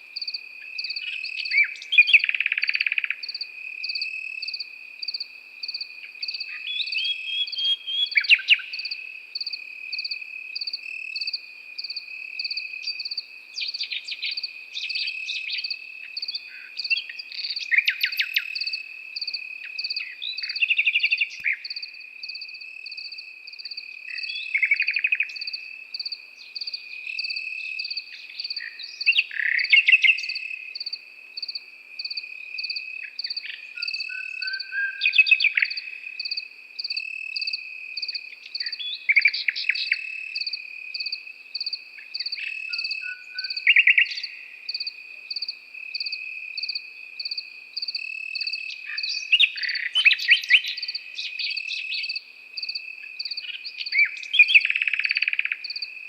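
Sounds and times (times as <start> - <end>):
crickets chirping: 0.0 - 56.0
nightingale singing: 0.0 - 56.0.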